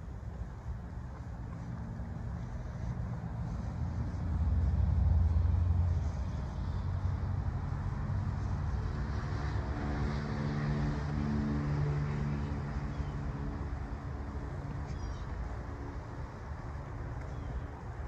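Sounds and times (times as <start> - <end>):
humming engine note: 0.0 - 18.0
low engine rumble: 0.0 - 18.0.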